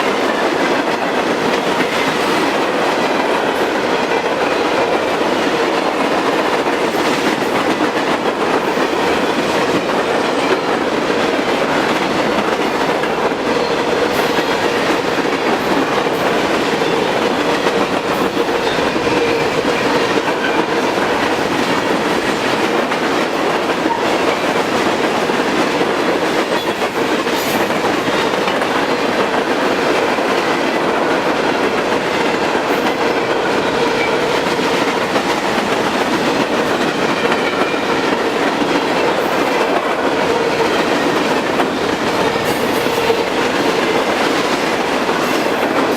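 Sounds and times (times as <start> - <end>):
rail joint clicks: 0.0 - 45.9
train wheels rumbling on rail: 0.0 - 45.9.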